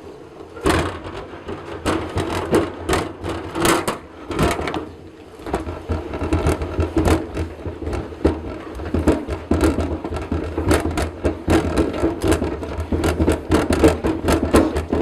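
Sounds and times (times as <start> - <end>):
honey extractor spinning with knocks: 0.6 - 15.0.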